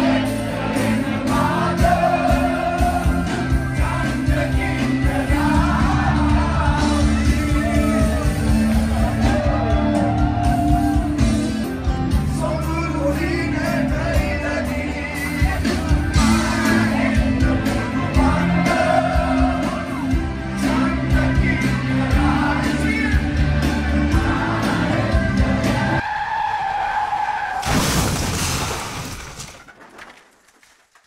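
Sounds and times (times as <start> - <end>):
live band with singing: 0.0 - 26.0.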